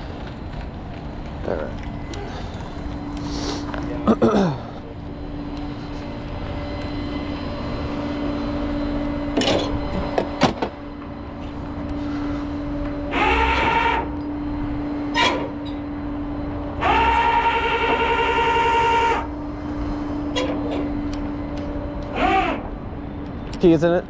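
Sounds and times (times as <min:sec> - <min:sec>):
tow truck engine hum: 0:00.0 - 0:23.7
rising whine: 0:00.0 - 0:24.0.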